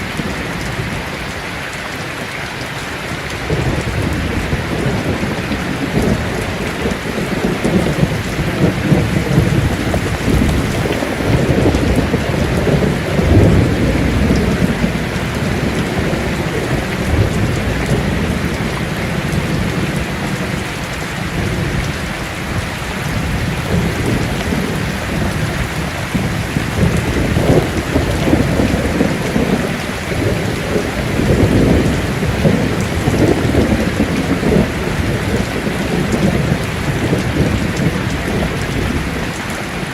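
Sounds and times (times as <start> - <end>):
heavy rain on a tin roof: 0.0 - 39.9
rolling thunder: 3.4 - 39.9.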